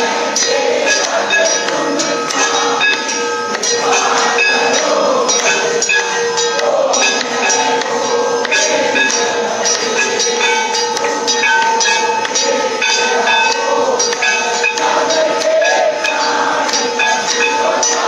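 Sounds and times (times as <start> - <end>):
bells and metal percussion: 0.0 - 18.0
steady held tones: 0.0 - 18.0.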